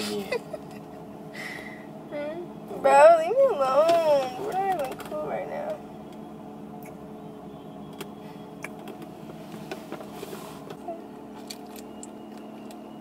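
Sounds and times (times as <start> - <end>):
car cabin hum: 2.0 - 13.0.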